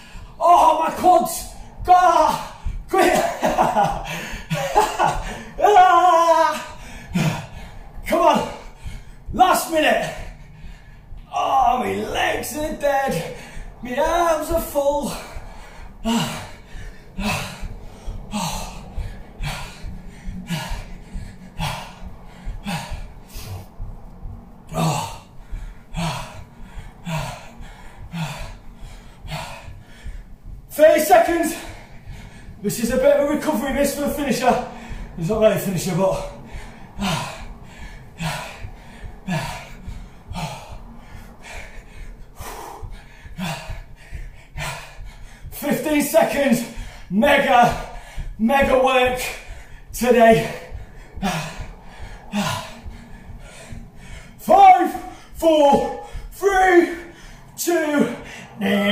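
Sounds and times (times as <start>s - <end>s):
man breathing hard: 0.0s - 58.9s
man gasping from exertion: 1.4s - 9.4s, 13.2s - 30.4s, 34.4s - 35.2s, 35.9s - 57.5s.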